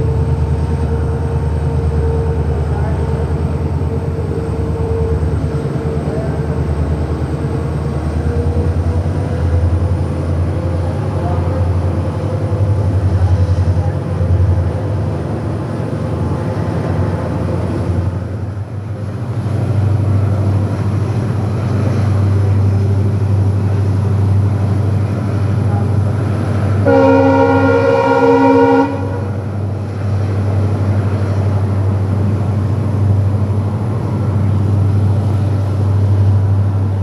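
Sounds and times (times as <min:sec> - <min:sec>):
train engine pulsing drone: 0:00.0 - 0:37.0.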